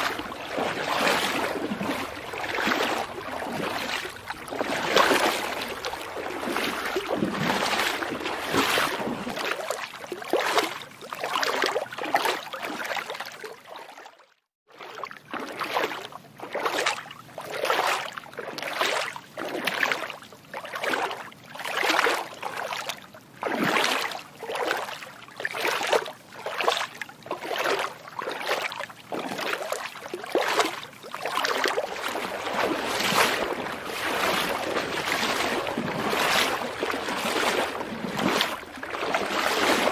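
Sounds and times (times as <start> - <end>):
feet wading through water: 0.0 - 39.9.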